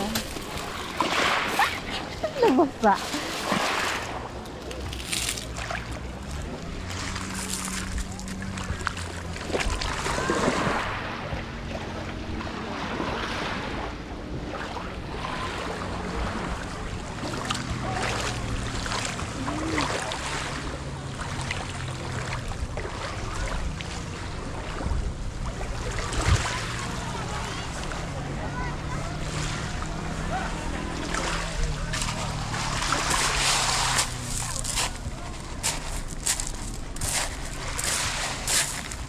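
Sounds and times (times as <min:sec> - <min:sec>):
small waves lapping on pebbles: 0:00.0 - 0:11.2, 0:12.4 - 0:39.0.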